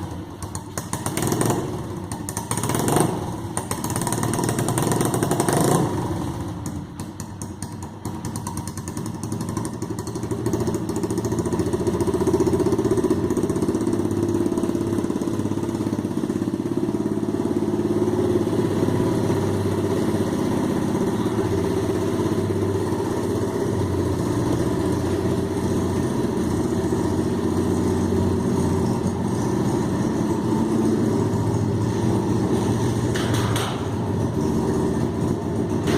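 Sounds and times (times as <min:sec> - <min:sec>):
motorbike engine running: 0:00.0 - 0:35.9.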